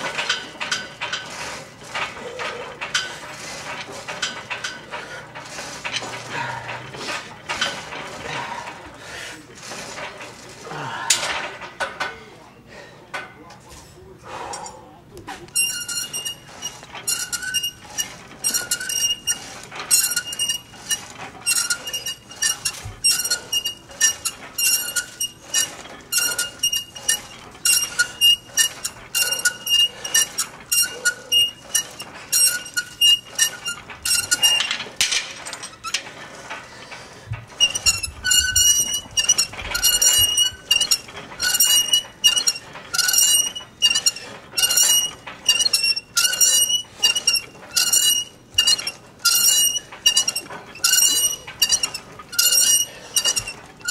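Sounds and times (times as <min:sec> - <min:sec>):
cable pulley squeaking and clinking: 0:00.0 - 0:12.5, 0:14.4 - 0:53.9.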